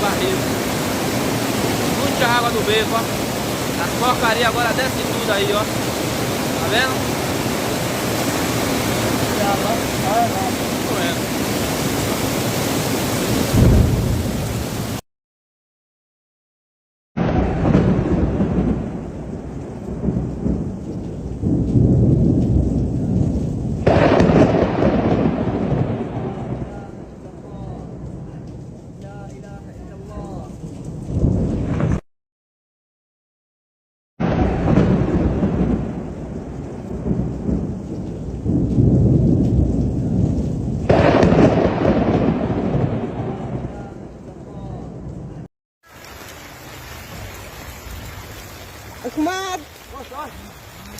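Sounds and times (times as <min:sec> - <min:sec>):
heavy rainstorm roar: 0:00.0 - 0:15.0, 0:17.3 - 0:32.0, 0:34.3 - 0:50.9
thunder rumbling: 0:00.0 - 0:15.0, 0:17.2 - 0:32.0, 0:34.2 - 0:50.9.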